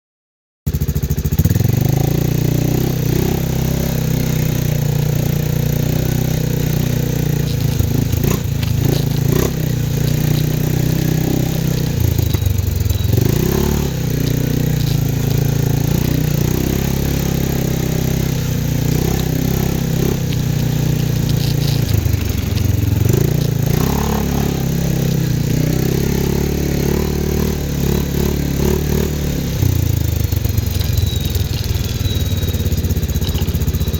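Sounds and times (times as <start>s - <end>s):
atv engine running: 0.7s - 33.9s.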